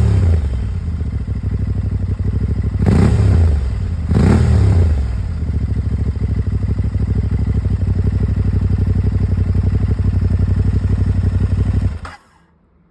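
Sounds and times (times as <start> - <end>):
motorcycle engine idling: 0.0 - 12.1.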